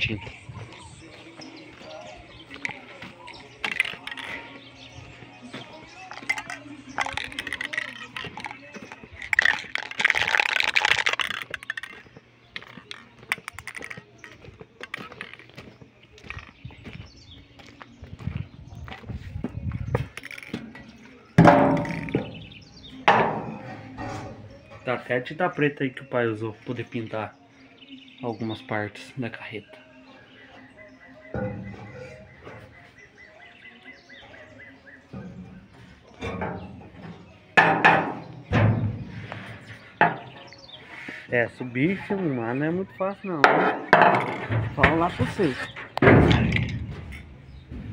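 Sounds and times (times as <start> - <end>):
footsteps crunching on gravel: 0.0 - 25.6, 28.2 - 47.9
bird chirping: 0.0 - 47.9.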